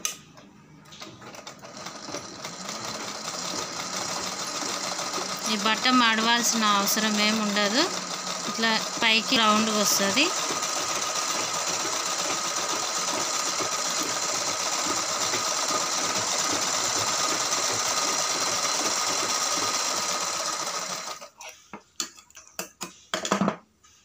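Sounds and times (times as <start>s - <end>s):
sewing machine running: 0.9s - 21.4s.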